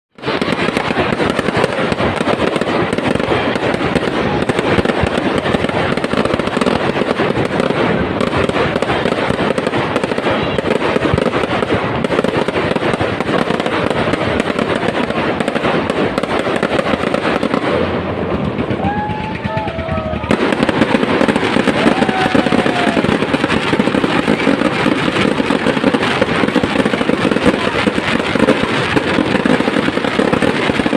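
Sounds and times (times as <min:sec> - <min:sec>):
fireworks bangs and crackles: 0:00.1 - 0:30.9.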